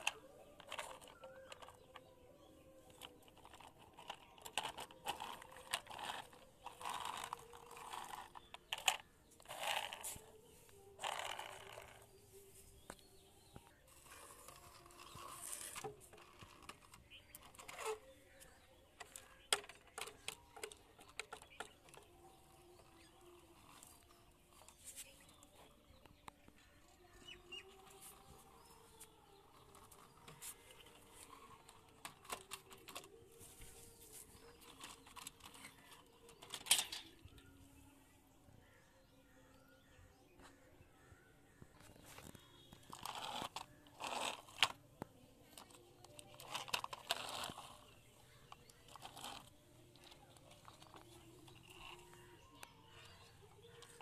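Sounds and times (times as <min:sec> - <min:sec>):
plastic toys clicking and knocking: 0:00.0 - 0:12.2, 0:12.8 - 0:37.6, 0:41.6 - 0:54.0
toys scraping on concrete: 0:00.0 - 0:37.4, 0:41.8 - 0:54.0.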